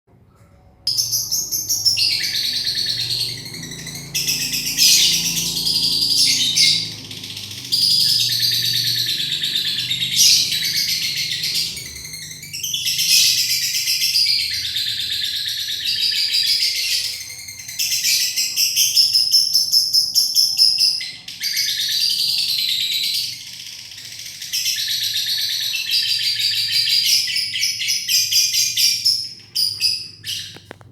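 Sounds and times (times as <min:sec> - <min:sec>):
bird chattering trill: 0:00.9 - 0:30.8.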